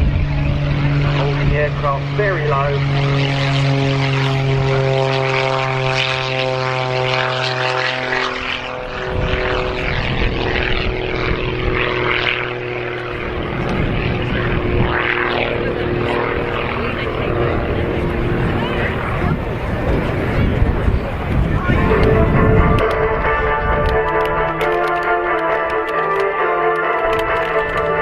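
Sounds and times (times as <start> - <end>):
aircraft engine droning: 0.0 - 28.0.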